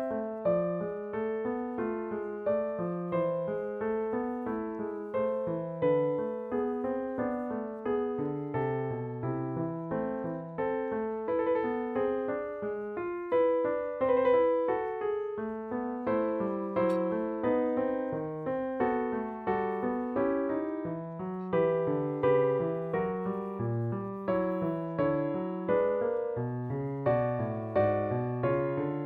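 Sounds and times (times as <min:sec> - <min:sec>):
background piano music: 0:00.0 - 0:29.0.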